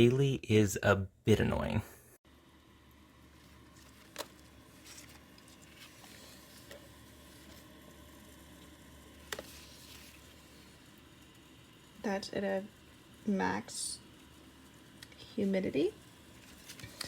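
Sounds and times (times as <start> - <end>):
humidifier running: 0.0 - 17.0.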